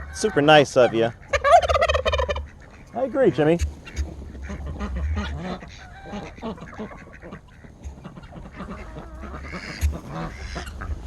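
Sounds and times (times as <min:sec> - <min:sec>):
ducks quacking: 0:00.0 - 0:11.0
geese honking: 0:00.0 - 0:11.0.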